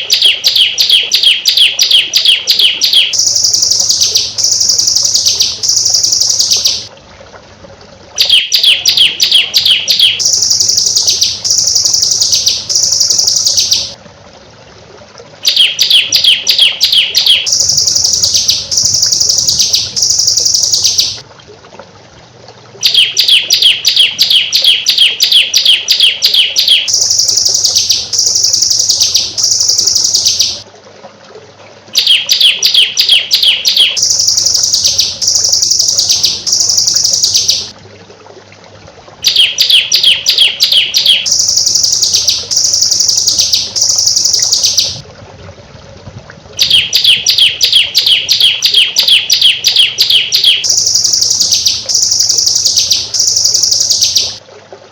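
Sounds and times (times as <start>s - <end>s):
songbird song: 0.0s - 6.9s, 8.2s - 14.0s, 15.4s - 21.2s, 22.8s - 30.7s, 31.9s - 37.8s, 39.2s - 45.0s, 46.6s - 54.4s.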